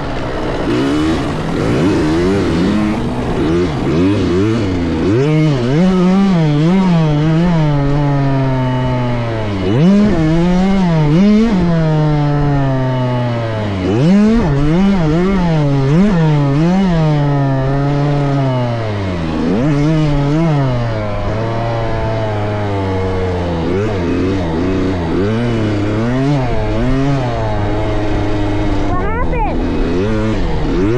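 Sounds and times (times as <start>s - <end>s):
two-stroke motocross bike engine: 0.0s - 30.9s.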